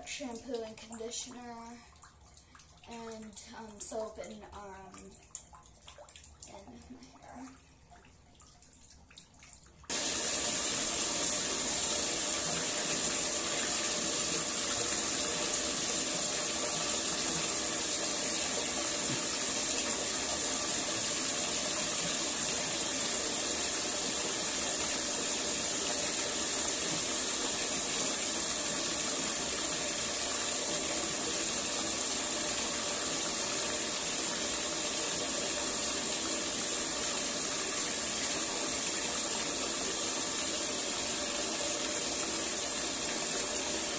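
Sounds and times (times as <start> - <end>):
water pouring into bathtub: 0.0 - 43.9.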